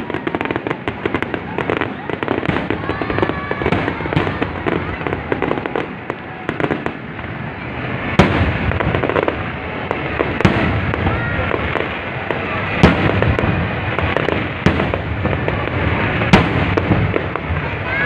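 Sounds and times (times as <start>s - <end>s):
fireworks crackle and rumble: 0.0s - 18.0s.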